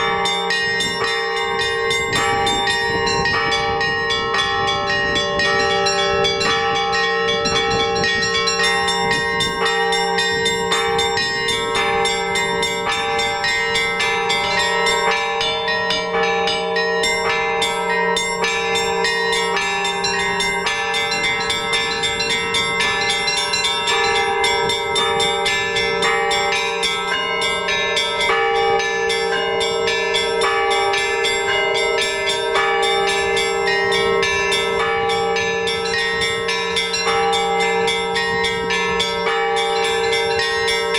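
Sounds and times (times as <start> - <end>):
hum of large bells: 0.0 - 40.9
small bells striking quickly: 0.0 - 40.9.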